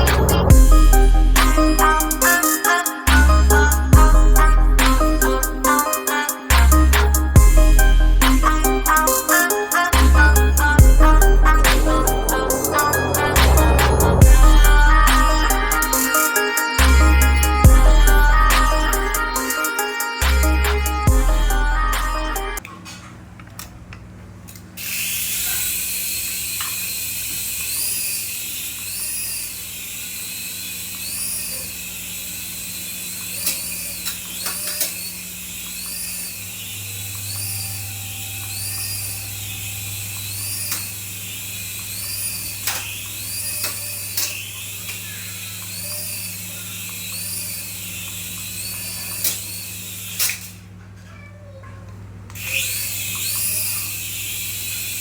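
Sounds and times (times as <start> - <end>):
toy electric motor whining: 0.0 - 22.6, 24.8 - 50.8, 52.3 - 55.0.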